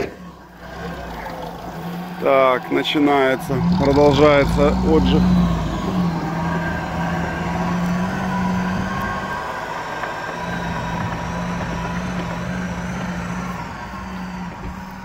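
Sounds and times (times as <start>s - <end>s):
jeep engine pulling: 0.0s - 15.0s.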